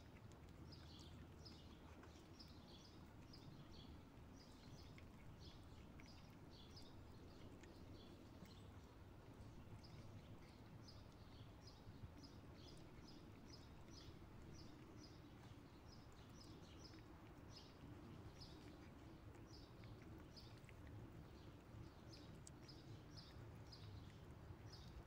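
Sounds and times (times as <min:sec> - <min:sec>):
small bird chirping: 0:00.0 - 0:25.0.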